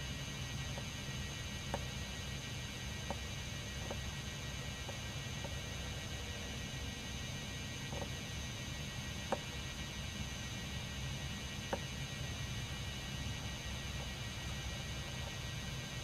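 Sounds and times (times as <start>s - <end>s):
camcorder hum and hiss: 0.0s - 16.0s.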